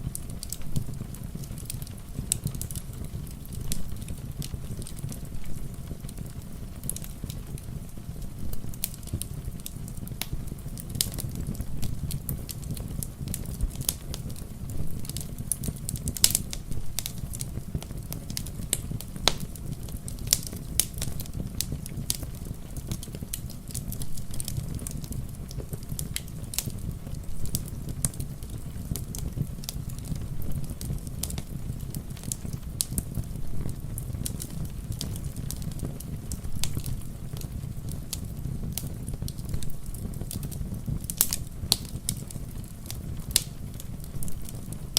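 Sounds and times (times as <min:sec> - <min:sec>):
rain pattering: 0:00.0 - 0:44.9
wood fire crackling and popping: 0:00.0 - 0:44.9.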